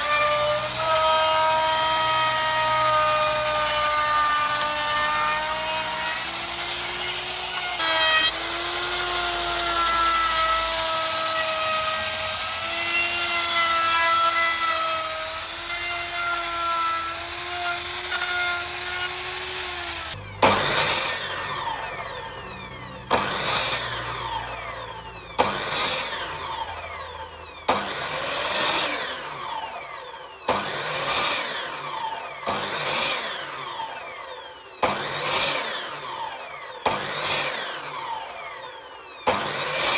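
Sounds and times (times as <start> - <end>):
angle grinder cutting wood: 0.0 - 39.9.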